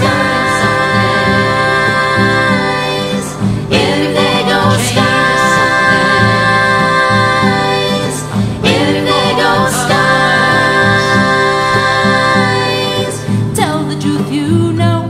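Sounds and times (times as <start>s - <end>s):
acoustic guitar strums: 0.0s - 14.3s
woman singing layered long notes: 0.0s - 15.0s.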